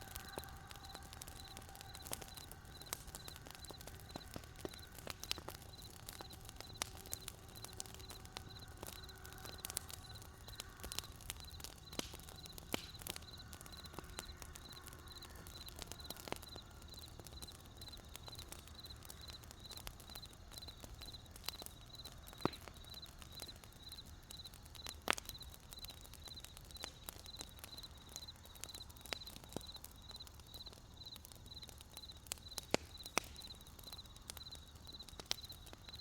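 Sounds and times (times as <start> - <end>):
campfire crackling and popping: 0.0 - 36.0
cricket chirping: 0.0 - 36.0.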